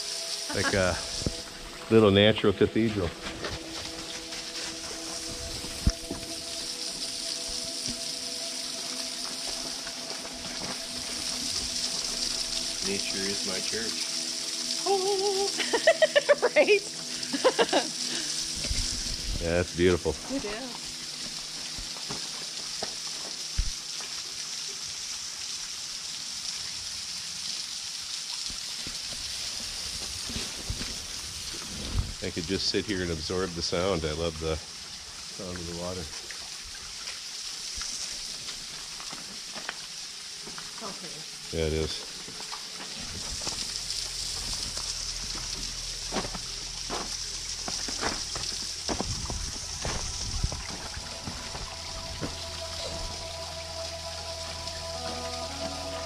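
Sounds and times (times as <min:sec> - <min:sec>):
waterfall running: 0:00.0 - 0:56.0.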